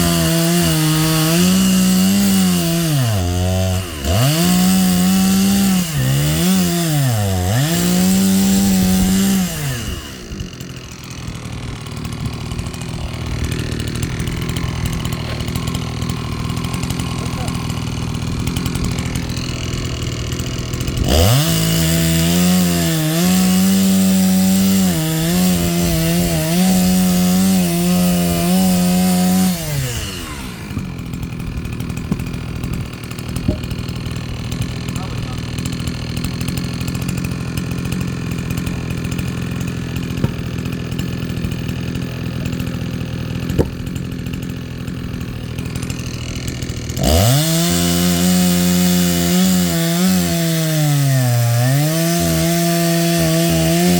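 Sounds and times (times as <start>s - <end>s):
chainsaw revving and idling: 0.0s - 53.9s.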